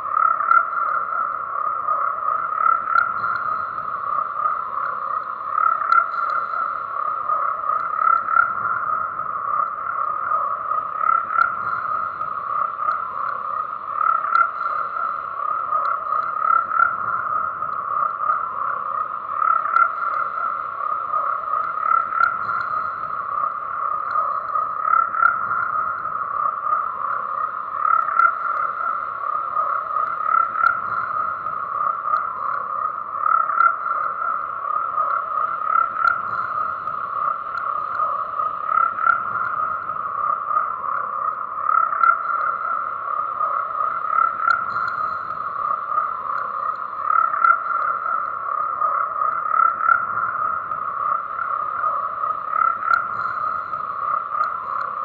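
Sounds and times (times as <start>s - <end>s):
frogs calling: 0.0s - 55.0s.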